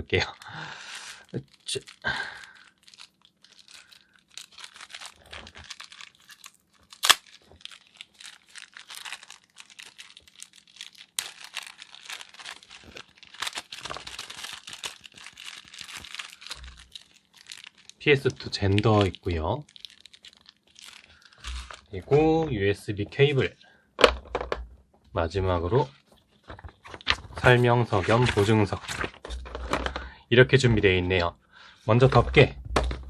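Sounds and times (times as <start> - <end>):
packaging crinkling and tearing: 0.2 - 22.5, 25.8 - 31.3.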